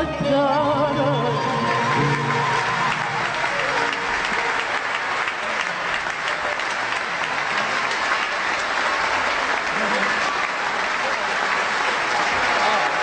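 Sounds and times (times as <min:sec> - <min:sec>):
audience applauding: 0:01.4 - 0:13.0.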